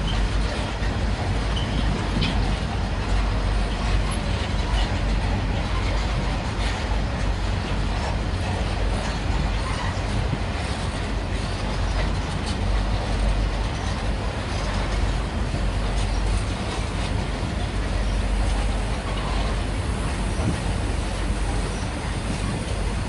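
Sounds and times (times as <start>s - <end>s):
freight train wagons rumbling: 0.0s - 23.0s.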